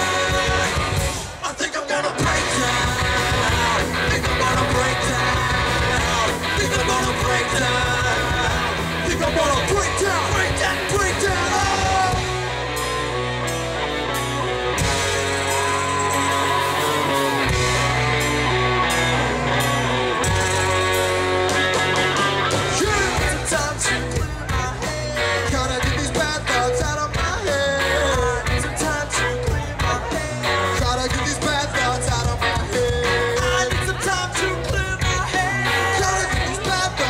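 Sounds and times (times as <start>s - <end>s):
bass guitar long notes: 0.0s - 37.0s
live rock band playing: 0.0s - 37.0s
singer's voice: 0.0s - 37.0s
drumming: 2.2s - 12.7s, 14.8s - 37.0s.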